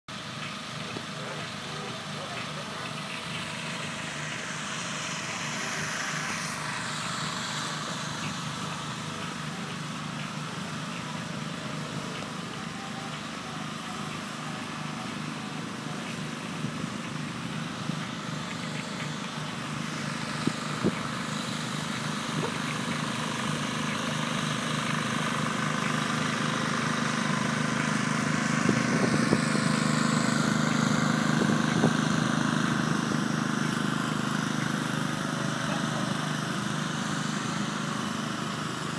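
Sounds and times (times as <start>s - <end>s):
electric air blowers droning: 0.1s - 38.9s.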